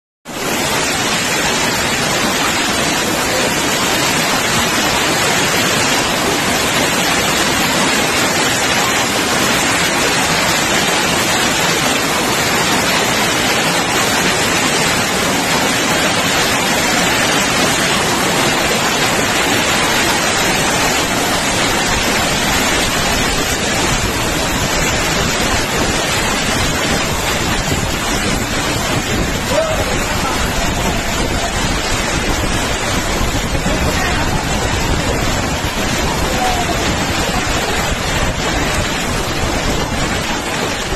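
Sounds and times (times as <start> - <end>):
hail and rain pouring down: 0.3 - 40.9.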